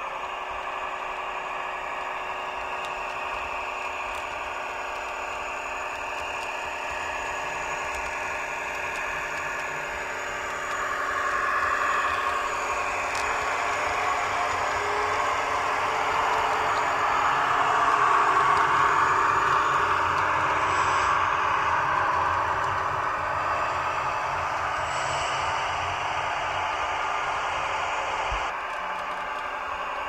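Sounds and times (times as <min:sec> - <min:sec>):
diesel engine sound from small speaker: 0:01.3 - 0:30.0.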